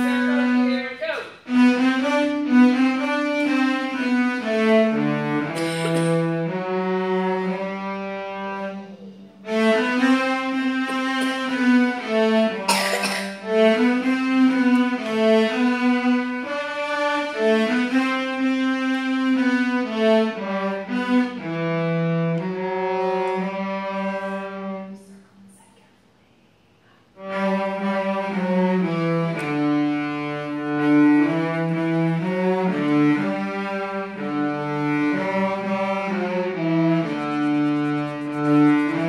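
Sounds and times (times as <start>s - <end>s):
cellos playing a melody: 0.0s - 25.9s, 27.0s - 39.0s.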